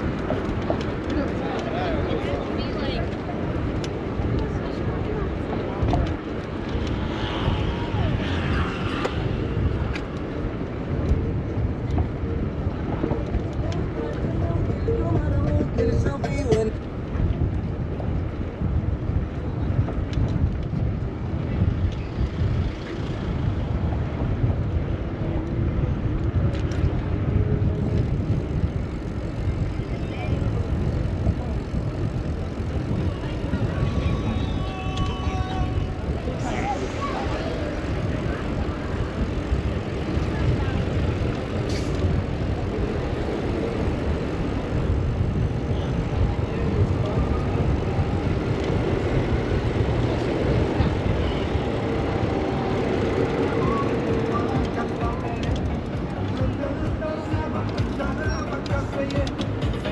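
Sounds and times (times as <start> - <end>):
faint traffic: 0.0 - 59.9
wind buffeting microphone: 0.0 - 59.9.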